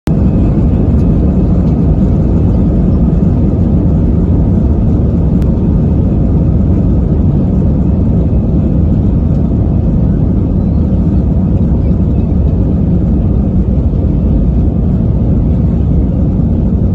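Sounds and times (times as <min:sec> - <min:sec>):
jet engines rumbling: 0:00.1 - 0:16.9.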